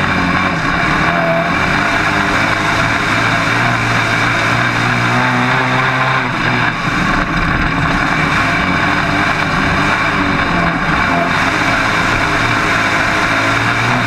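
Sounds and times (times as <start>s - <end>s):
loud rushing noise: 0.0s - 14.0s
race car engine running hard: 0.0s - 14.0s.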